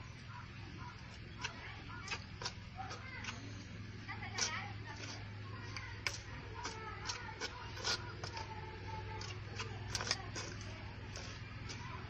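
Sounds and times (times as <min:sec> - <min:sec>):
steady low hum: 0:00.0 - 0:12.0
spoon scraping steel bowl: 0:01.4 - 0:12.0.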